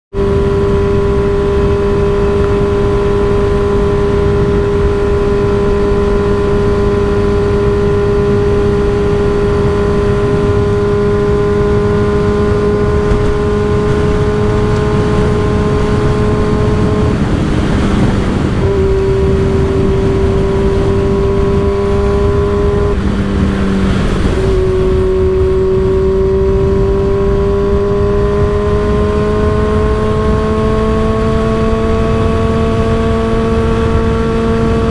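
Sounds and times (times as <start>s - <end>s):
motorcycle engine cruising: 0.1s - 34.9s
wind buffeting microphone: 0.1s - 34.9s.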